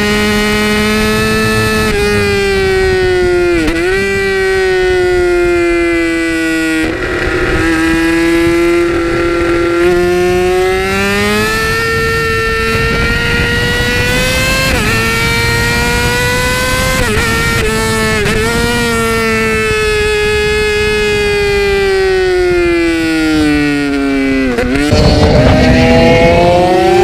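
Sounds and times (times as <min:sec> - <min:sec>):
motorcycle engine at high revs: 0:00.0 - 0:27.0
wind and road rush: 0:00.0 - 0:27.0.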